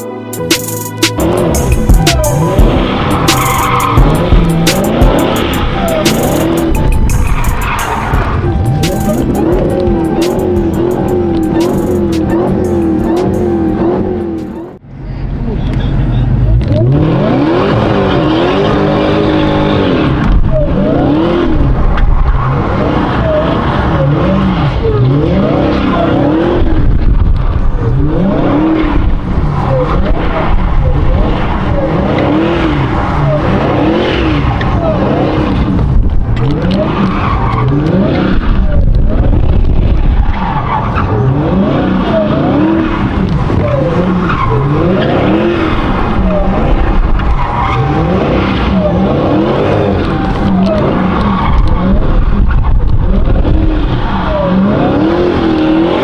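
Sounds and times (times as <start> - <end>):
car engine revving: 0.0 - 56.0
tires skidding: 0.5 - 14.8, 15.4 - 56.0.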